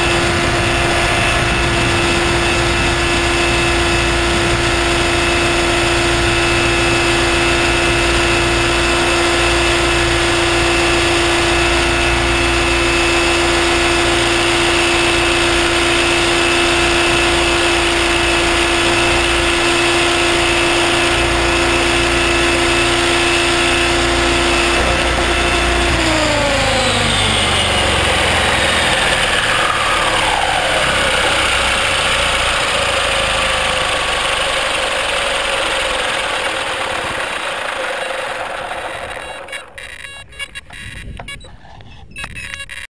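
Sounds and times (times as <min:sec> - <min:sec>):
model helicopter rotor whine: 0:00.0 - 0:42.9.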